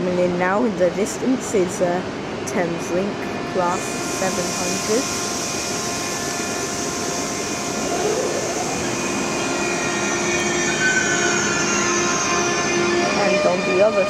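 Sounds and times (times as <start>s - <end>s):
electric train hum and whine: 0.0s - 14.0s.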